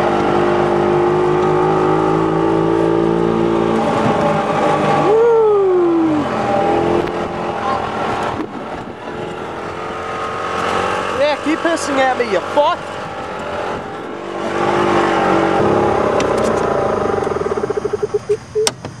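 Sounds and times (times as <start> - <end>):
falling whine: 0.0 - 19.0
utility cart engine running: 0.0 - 19.0.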